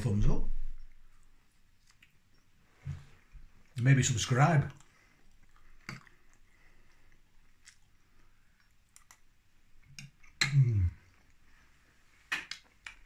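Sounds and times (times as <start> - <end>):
man chewing food: 0.7 - 3.8, 4.7 - 13.0.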